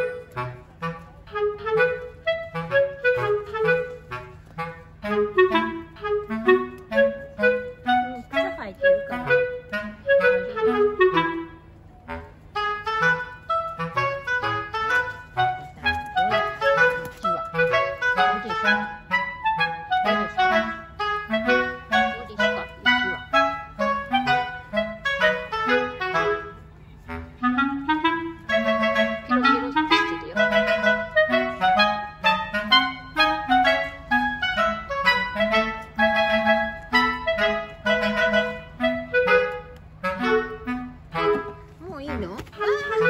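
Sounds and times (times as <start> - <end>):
light tune with bass line: 0.0 - 43.0.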